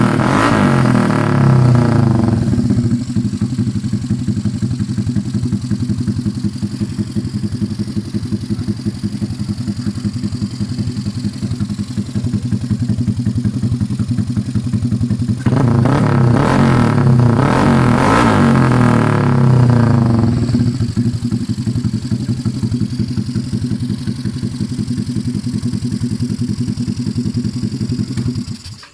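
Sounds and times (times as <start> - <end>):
scooter engine idling and revving: 0.0 - 28.9.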